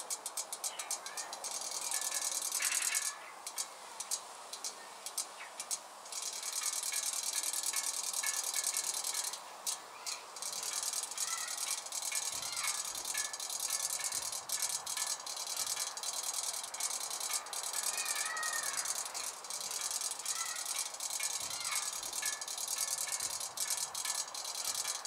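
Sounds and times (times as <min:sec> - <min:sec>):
toy fish clicking rattle: 0:00.0 - 0:25.0.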